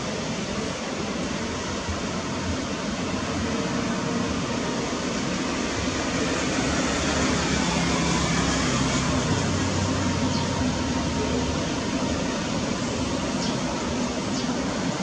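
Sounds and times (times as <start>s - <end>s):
jet engines at takeoff thrust: 0.0s - 15.0s.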